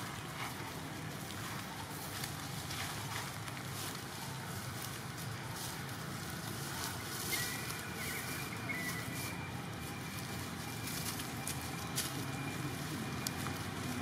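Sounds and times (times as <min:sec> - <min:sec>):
dry leaves rustling: 0:00.0 - 0:14.0
low outdoor rumble: 0:00.0 - 0:14.0.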